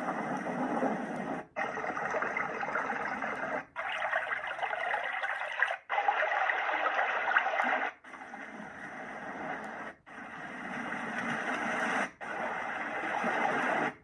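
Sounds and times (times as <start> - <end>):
white noise from small speaker: 0.0 - 14.0.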